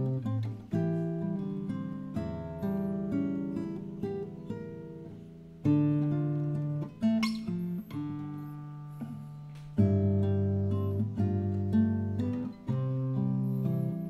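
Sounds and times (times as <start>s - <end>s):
classical guitar fingerstyle: 0.0s - 14.0s.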